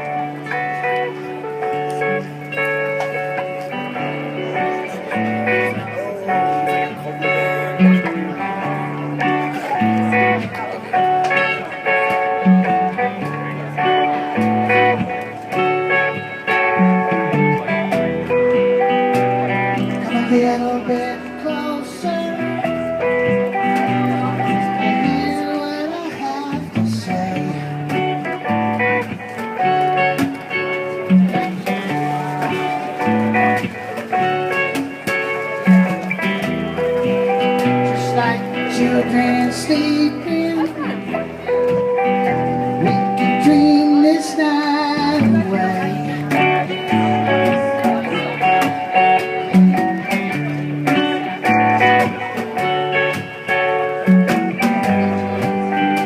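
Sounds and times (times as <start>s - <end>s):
mandolin: 0.0s - 56.0s
plucked guitar: 0.0s - 56.0s.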